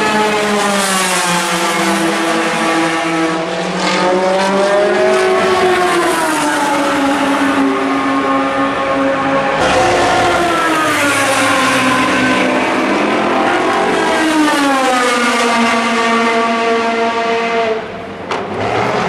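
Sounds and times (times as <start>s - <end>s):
race car engines at speed: 0.0s - 19.0s.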